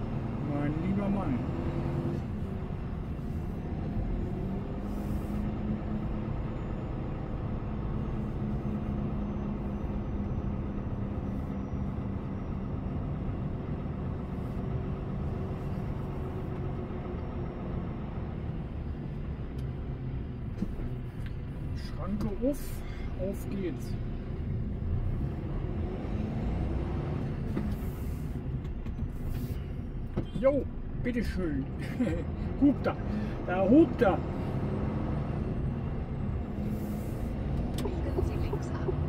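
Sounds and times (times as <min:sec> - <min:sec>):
truck diesel engine droning: 0:00.0 - 0:39.0.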